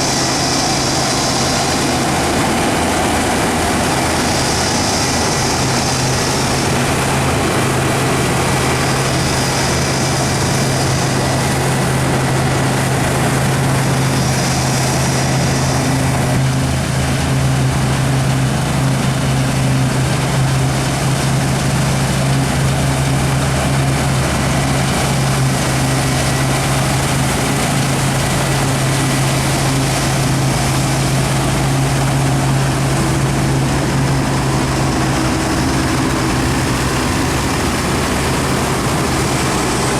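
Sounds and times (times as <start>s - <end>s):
heavy farm machinery running: 0.0s - 39.9s.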